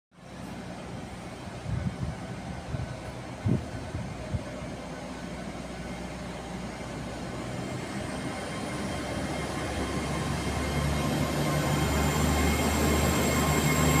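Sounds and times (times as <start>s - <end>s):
train running noise: 0.2s - 14.0s
high rising whine: 0.4s - 14.0s.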